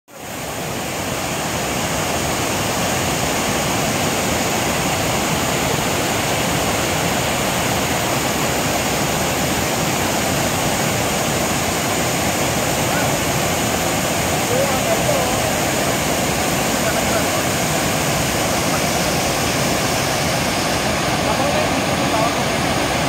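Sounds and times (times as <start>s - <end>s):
water rushing over weir: 0.1s - 23.0s.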